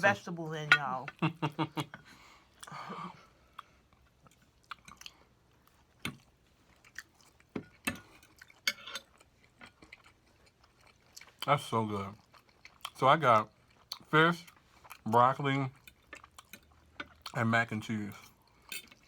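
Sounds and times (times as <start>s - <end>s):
person chewing food: 1.2s - 17.5s, 18.1s - 19.0s.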